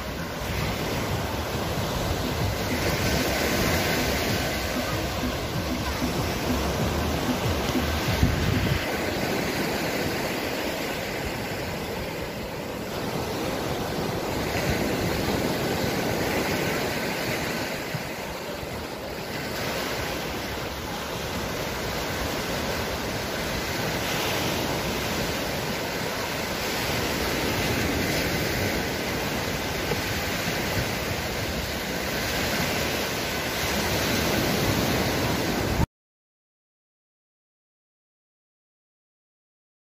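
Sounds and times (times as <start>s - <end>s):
small waves breaking on shore: 0.0s - 35.8s.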